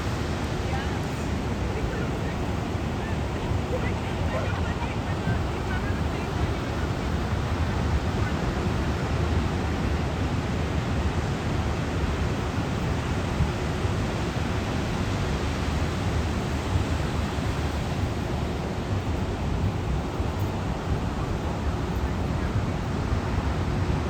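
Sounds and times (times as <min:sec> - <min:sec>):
ocean surf at shore: 0:00.0 - 0:24.0
wind: 0:00.0 - 0:24.0.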